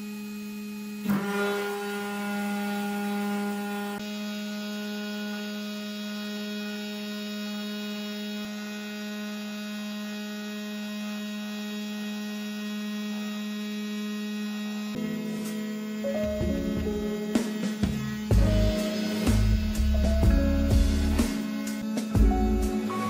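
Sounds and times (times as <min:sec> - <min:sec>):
cnc spindle milling tone: 0:00.0 - 0:23.0.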